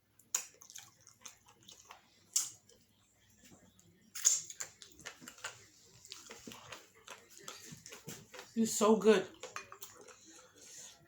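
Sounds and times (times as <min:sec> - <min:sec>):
chewing and wet mouth smacks: 0:00.2 - 0:08.6, 0:09.3 - 0:11.0.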